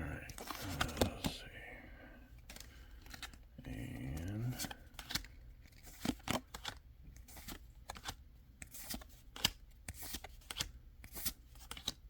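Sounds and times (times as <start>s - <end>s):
trading cards sliding and flipping: 0.3s - 1.4s, 2.4s - 12.0s.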